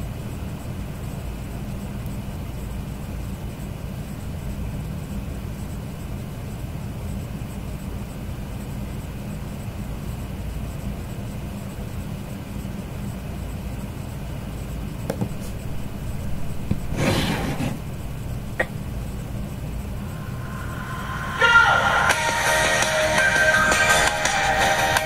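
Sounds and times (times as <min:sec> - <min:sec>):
low background rumble: 0:00.0 - 0:22.2.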